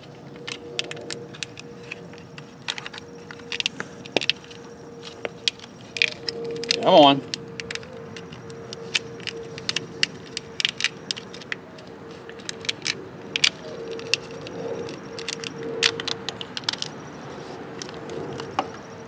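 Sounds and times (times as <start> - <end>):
plastic tubing clicking and crackling: 0.0 - 17.0.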